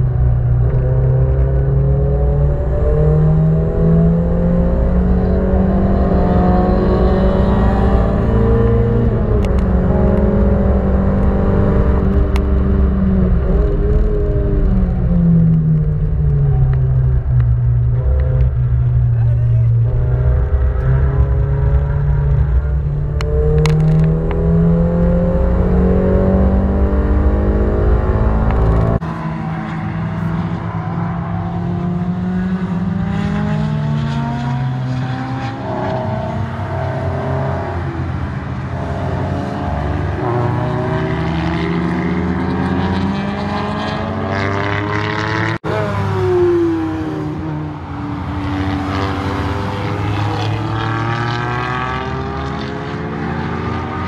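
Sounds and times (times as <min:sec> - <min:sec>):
car engine at high revs: 0:00.0 - 0:54.0
race car engines passing: 0:00.0 - 0:54.0.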